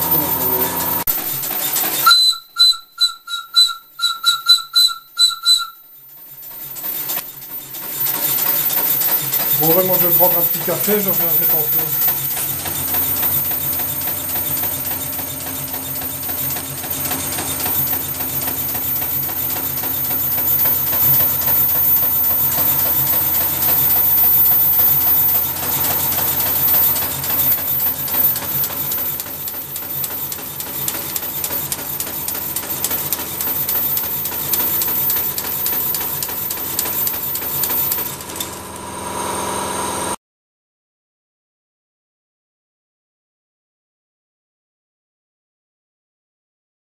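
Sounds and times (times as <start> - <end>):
locomotive mechanical beat: 0.0 - 38.8.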